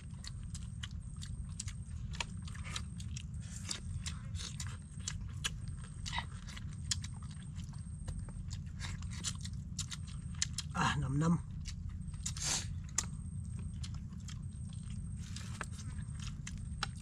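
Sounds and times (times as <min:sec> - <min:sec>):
low rumble: 0:00.0 - 0:17.0
people chewing and smacking: 0:00.0 - 0:17.0.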